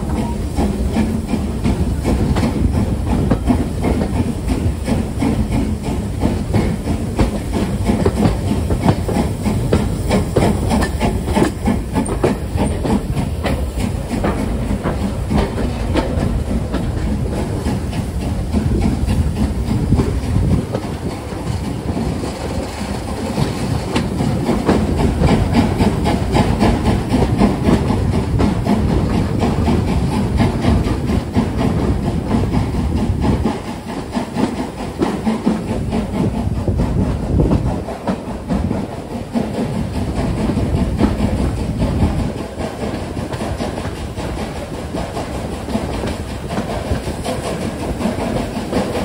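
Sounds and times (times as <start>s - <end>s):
steam locomotive hiss: 0.0s - 49.0s
train wheels clattering over rails: 0.0s - 49.0s.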